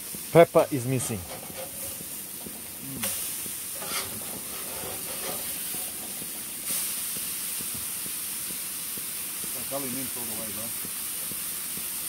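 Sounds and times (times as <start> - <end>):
burger patties sizzling: 0.0 - 12.0.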